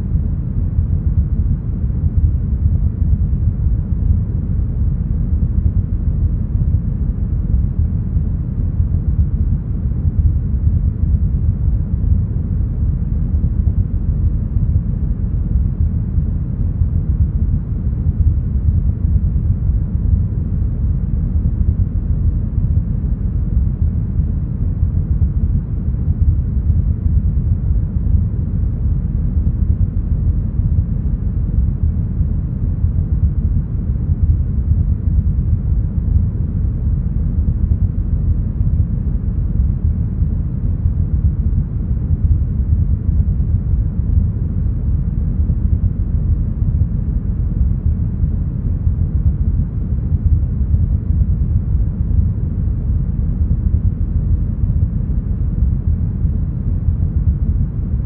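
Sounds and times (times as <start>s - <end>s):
deep brown noise: 0.0s - 58.0s.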